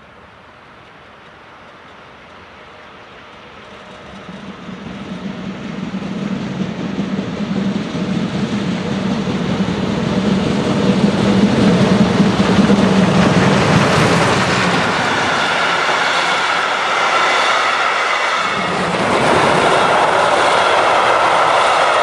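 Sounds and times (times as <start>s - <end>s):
train approaching: 0.0s - 22.0s.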